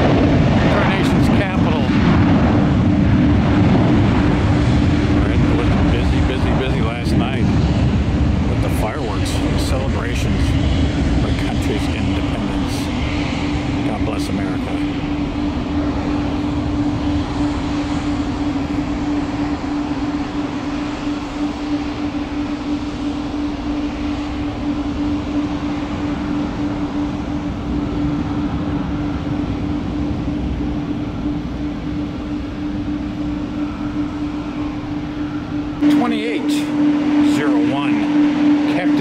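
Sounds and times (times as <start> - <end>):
constant low hum: 0.0 - 39.0
jet engines roaring at takeoff: 0.0 - 39.0.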